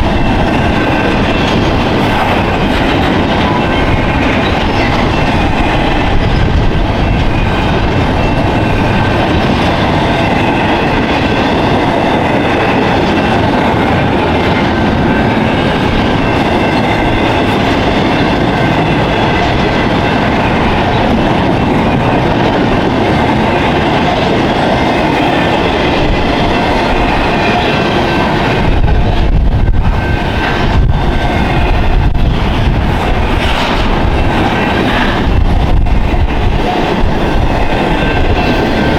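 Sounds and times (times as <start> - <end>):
high ringing of wheels on rails: 0.0 - 38.9
train wheels clacking over rail joints: 0.0 - 38.9.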